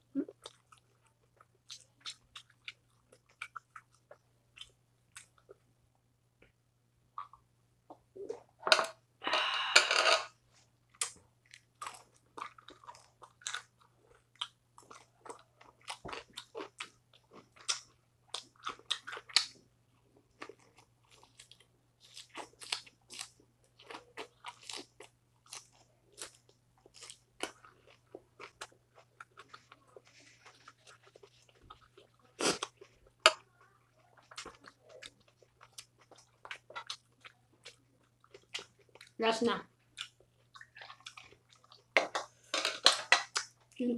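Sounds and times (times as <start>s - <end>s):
person chewing and crunching: 0.2s - 5.6s, 10.9s - 39.2s, 39.8s - 43.8s.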